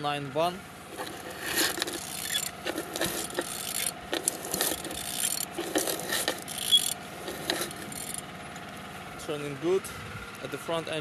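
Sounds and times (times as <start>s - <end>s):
engine ticking and clatter: 0.1s - 11.0s
car engine idling: 0.4s - 11.0s.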